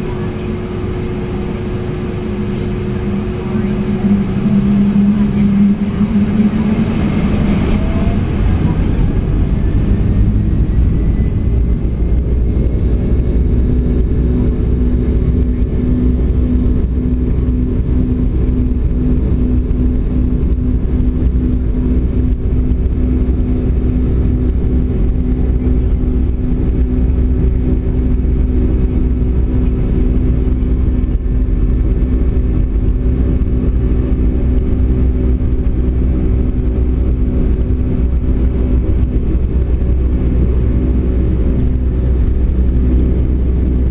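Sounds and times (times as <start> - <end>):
jet engines droning in cabin: 0.0 - 43.9
steady hum: 0.0 - 43.9.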